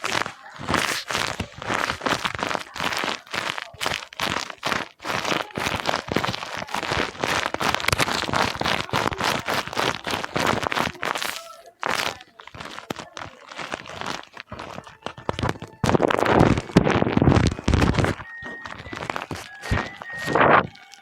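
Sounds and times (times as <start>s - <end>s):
paper crinkling and rustling: 0.0s - 21.0s.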